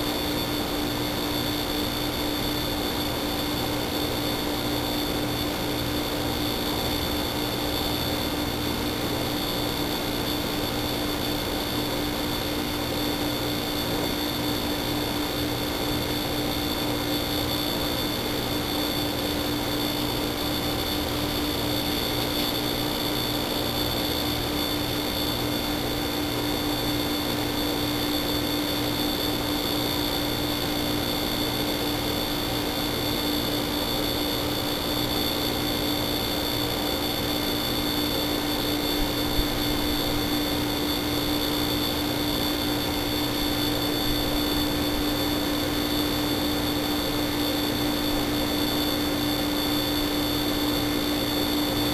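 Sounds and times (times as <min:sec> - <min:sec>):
electronic whine: 0:00.0 - 0:51.9.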